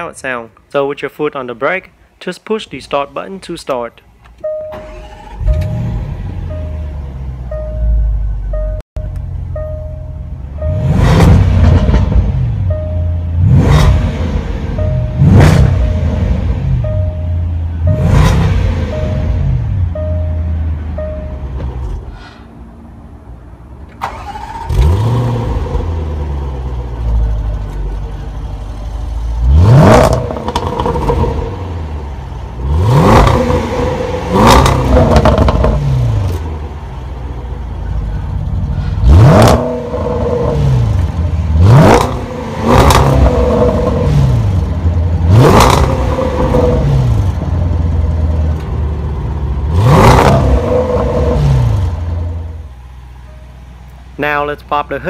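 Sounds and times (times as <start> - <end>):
car engine starting: 4.2 - 54.2
car engine idling and revving: 4.2 - 55.0.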